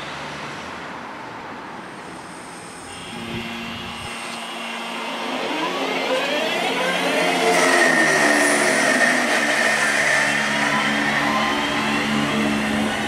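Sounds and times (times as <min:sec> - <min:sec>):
electric train motors whining: 0:01.9 - 0:13.0.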